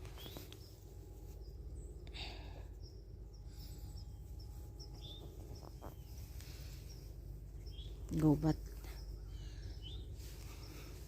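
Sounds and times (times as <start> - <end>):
high bird chirps: 0.0 - 2.0, 2.7 - 11.0
steady low rumble: 0.0 - 11.0.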